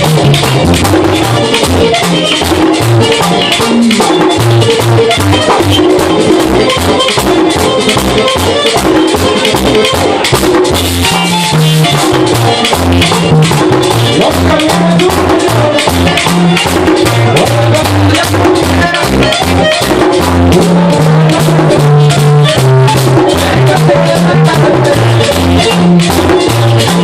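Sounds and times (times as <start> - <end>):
bass line: 0.0 - 27.0
drum strokes: 0.0 - 27.0.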